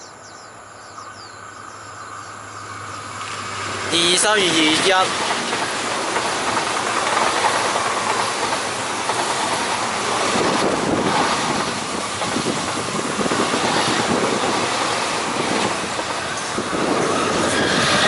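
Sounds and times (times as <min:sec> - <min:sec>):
train wheels on rail: 0:01.4 - 0:18.0
rail clicks: 0:03.2 - 0:18.0.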